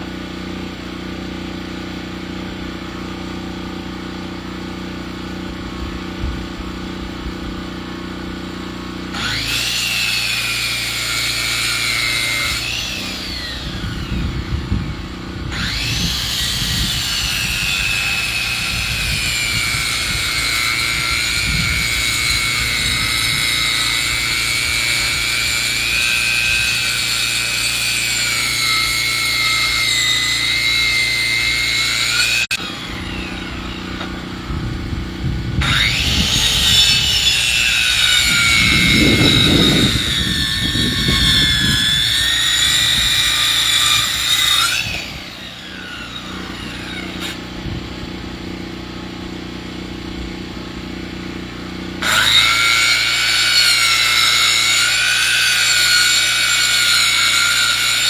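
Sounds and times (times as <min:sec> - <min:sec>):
saw cutting with high whine: 0:00.0 - 0:58.0.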